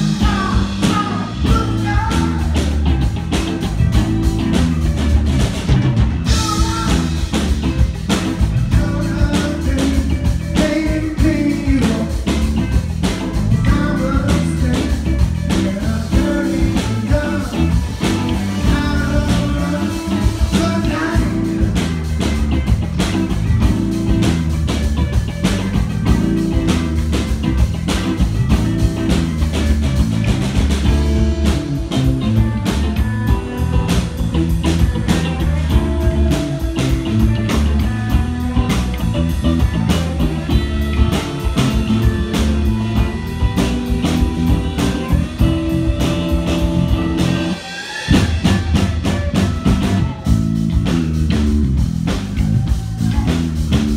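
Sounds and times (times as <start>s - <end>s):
drum kit: 0.0s - 53.9s
electric guitars: 0.0s - 53.9s.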